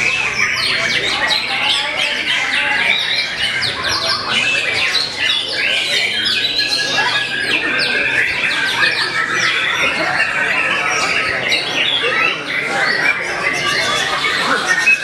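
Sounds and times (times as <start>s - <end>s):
other songbirds singing: 0.0s - 15.0s
songbird singing: 0.0s - 15.0s.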